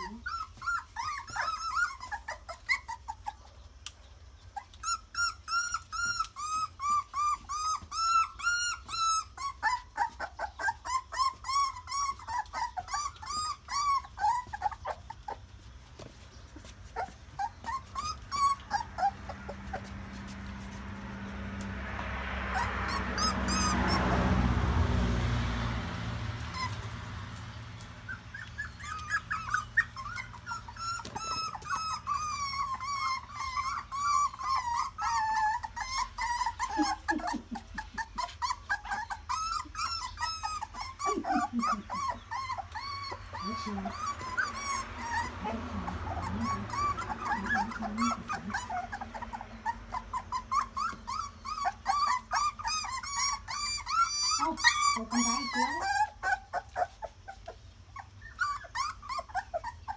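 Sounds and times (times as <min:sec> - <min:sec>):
puppies whimpering and whining: 0:00.0 - 0:59.9.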